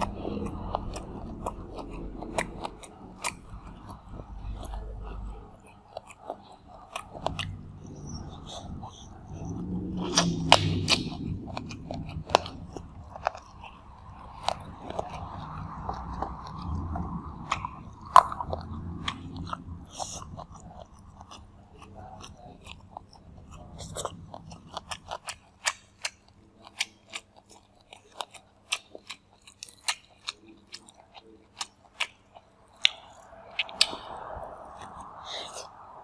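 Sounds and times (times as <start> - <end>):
sharp crunches and clicks: 0.0 - 35.9
close chewing and wet mouth sounds: 0.0 - 36.0.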